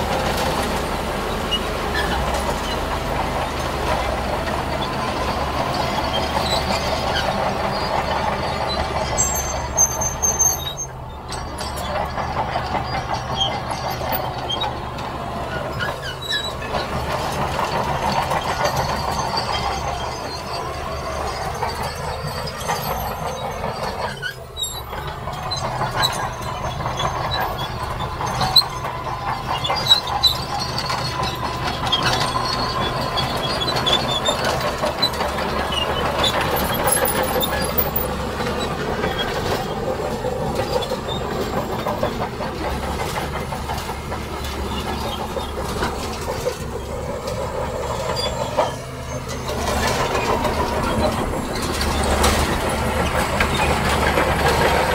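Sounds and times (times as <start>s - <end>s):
diesel engine running: 0.0s - 54.9s
steel tracks grinding and clanking: 0.0s - 54.9s.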